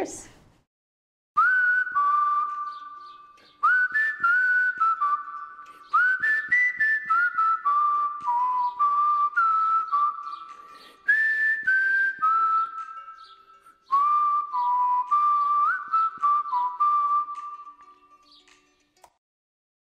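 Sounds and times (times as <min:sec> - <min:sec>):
whistled melody: 0:01.4 - 0:18.8.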